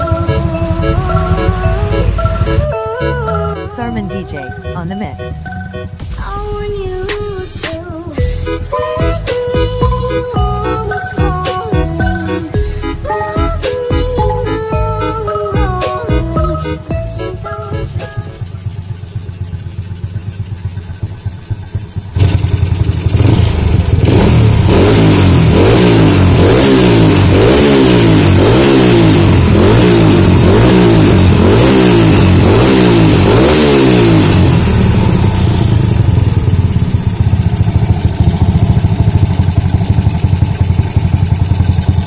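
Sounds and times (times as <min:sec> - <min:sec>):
motorcycle engine idling: 0:00.0 - 0:42.0
motorcycle engine revving: 0:00.0 - 0:42.0.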